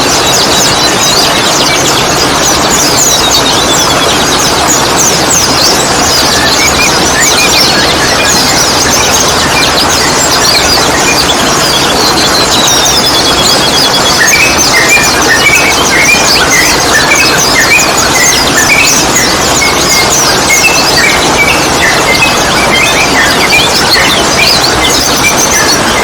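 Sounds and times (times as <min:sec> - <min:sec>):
bulbuls chirping and chattering: 0:00.0 - 0:26.0
loud steady rushing noise: 0:00.0 - 0:26.0.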